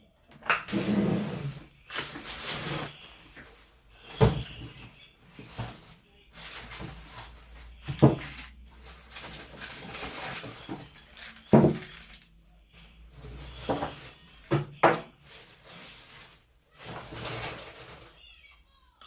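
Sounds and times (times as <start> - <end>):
items knocking and clattering: 0.3 - 18.2
rustling: 0.8 - 18.2.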